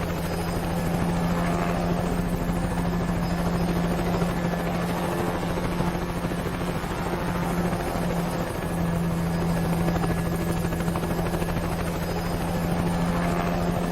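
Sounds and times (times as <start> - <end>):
helicopter engine hum: 0.0 - 13.9
helicopter rotor chop: 0.0 - 13.9.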